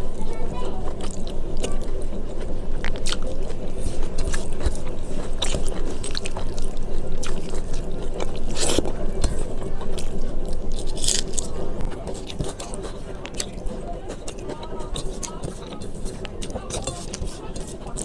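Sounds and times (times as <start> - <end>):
low background hum: 0.0 - 18.0
person chewing food: 0.0 - 18.0.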